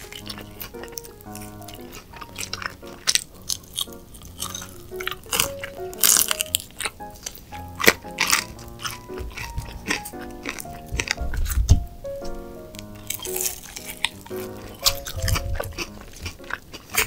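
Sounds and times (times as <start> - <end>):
background music held notes: 0.0 - 17.0
crunchy chewing: 0.0 - 17.0.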